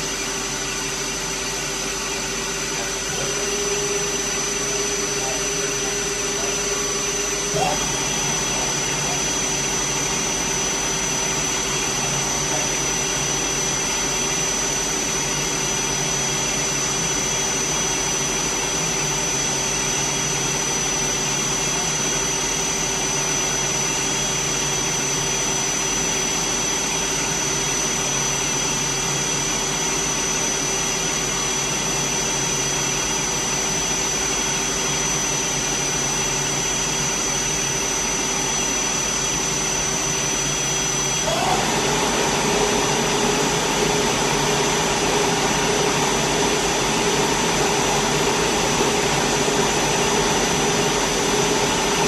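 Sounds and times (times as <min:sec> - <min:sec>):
high machine whine: 0:00.0 - 0:52.0
machine hum: 0:00.0 - 0:52.0.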